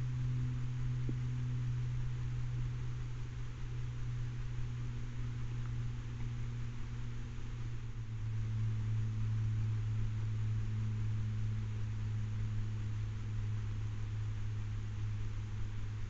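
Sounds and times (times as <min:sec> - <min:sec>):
constant hiss: 0:00.0 - 0:16.0
low hum: 0:00.0 - 0:16.0.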